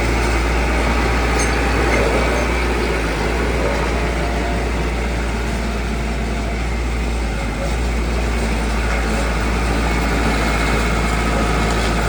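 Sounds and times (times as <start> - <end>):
heavy machinery engine rumbling: 0.0 - 12.0.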